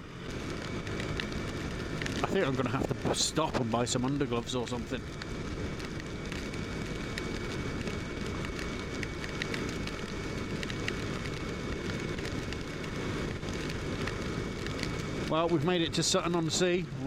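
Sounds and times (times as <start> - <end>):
wind and road noise: 0.0 - 17.0
raindrops ticking on camera: 0.4 - 16.4.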